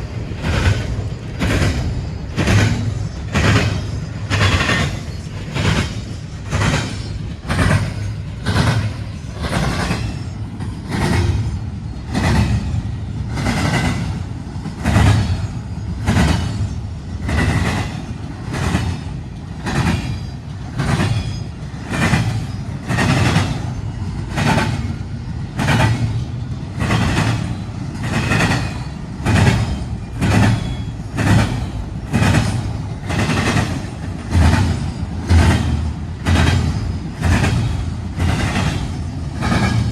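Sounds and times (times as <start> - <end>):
railroad cars rumbling: 0.0 - 39.9
train wheels clacking over rail joints: 0.0 - 39.9.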